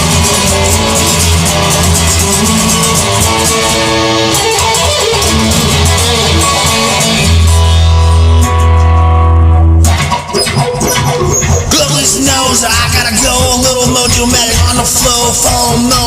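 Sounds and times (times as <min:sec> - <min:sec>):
bass line: 0:00.0 - 0:16.0
drums: 0:00.0 - 0:16.0
guitar-led instrumental music: 0:00.0 - 0:16.0.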